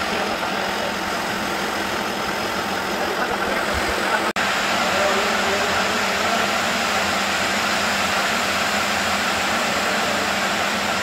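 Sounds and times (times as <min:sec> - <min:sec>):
machine humming and hissing: 0:00.0 - 0:11.0.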